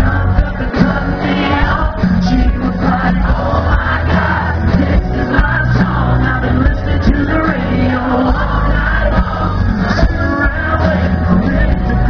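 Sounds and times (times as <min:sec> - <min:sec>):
live country band playing: 0:00.0 - 0:12.0
man singing: 0:00.0 - 0:12.0.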